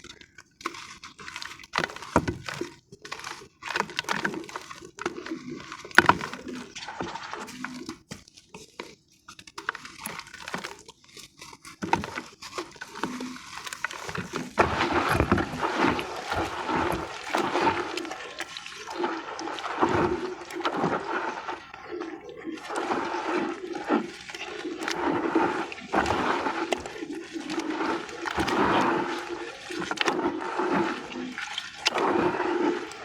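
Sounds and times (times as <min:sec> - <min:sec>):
small gritty clicks: 0:00.0 - 0:33.0
wet paste sloshing and squelching: 0:00.0 - 0:33.0.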